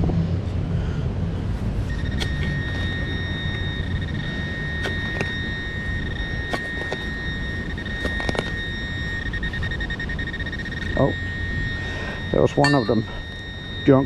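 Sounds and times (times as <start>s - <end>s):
metal detector high tone: 1.8s - 14.0s.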